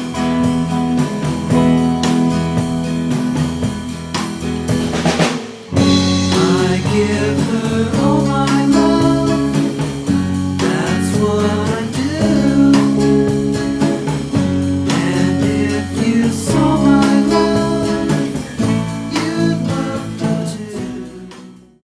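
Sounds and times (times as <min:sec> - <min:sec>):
guitar-led music with steady beat: 0:00.0 - 0:21.8.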